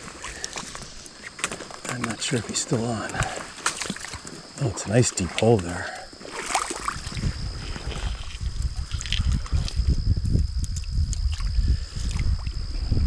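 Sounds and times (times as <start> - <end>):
water sloshing and splashing: 0.0 - 10.0, 10.7 - 13.0.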